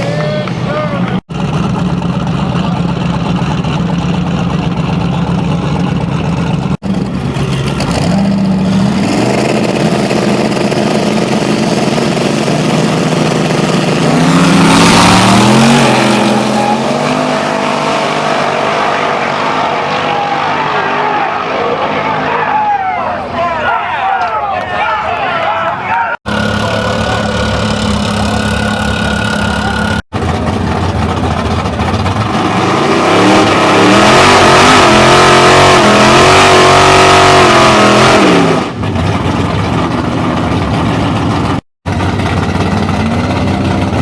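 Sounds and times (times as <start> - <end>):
race car engines revving: 0.0 - 44.0.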